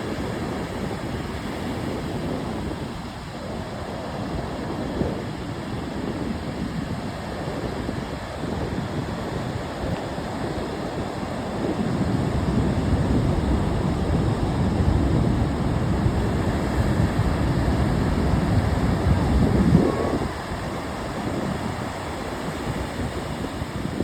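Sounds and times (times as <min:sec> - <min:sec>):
ocean waves washing ashore: 0:00.0 - 0:24.0.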